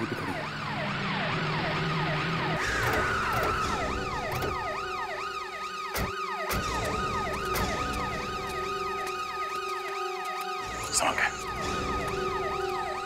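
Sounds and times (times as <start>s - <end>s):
vehicle siren yelping: 0.0s - 13.0s.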